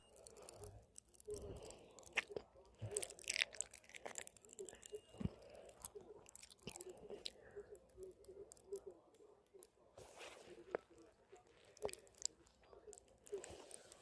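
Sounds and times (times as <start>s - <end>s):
popping candy crackling: 0.0s - 9.9s, 10.6s - 14.0s.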